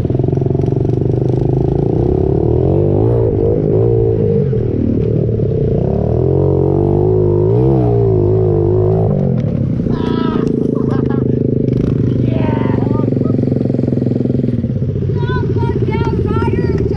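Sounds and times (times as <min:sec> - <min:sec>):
motorbike engine revving: 0:00.0 - 0:16.9.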